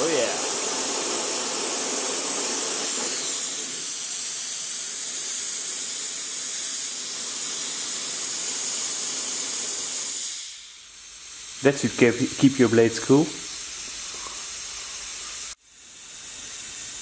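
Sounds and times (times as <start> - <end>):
mist sprayer hissing: 0.0 - 17.0.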